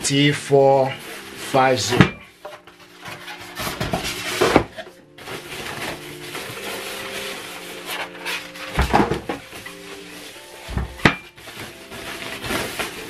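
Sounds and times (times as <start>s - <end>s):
plastic wrap rustling and crinkling: 0.0s - 13.0s.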